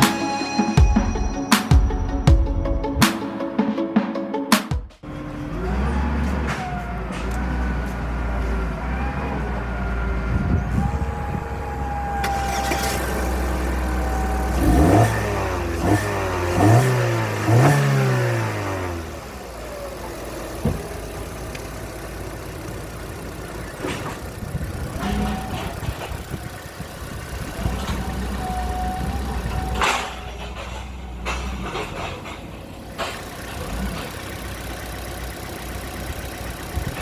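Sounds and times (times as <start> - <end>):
car engine idling and revving: 5.0 - 37.0.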